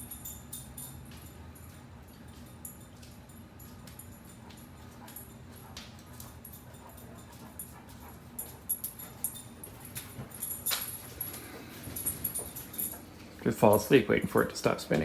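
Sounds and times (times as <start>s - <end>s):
clicking and jingling: 0.0s - 15.0s
low steady hum: 0.0s - 15.0s
dog moving about: 0.1s - 15.0s.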